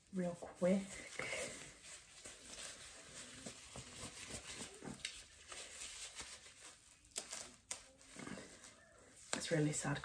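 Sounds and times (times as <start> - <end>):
plastic cape crinkling: 0.0 - 10.0.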